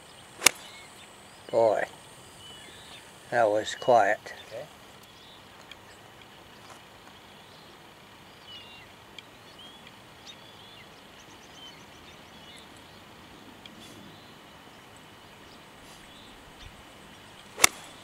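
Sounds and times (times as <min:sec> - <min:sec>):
faint open-air background hiss: 0:00.0 - 0:18.0.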